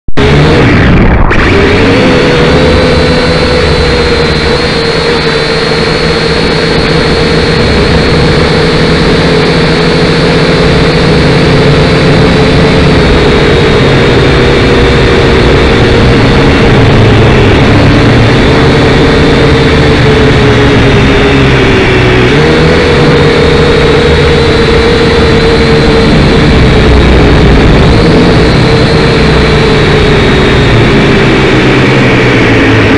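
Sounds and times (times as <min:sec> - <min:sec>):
drone motors whining: 0:00.1 - 0:32.9.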